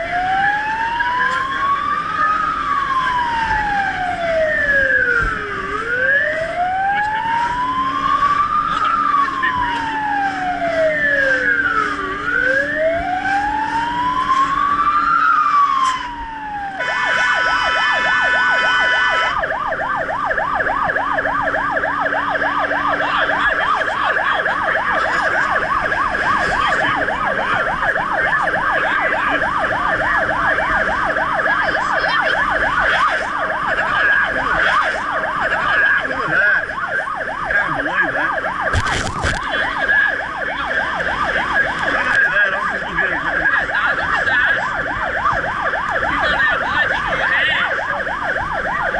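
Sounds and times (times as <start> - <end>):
fire truck siren: 0.0 - 48.9.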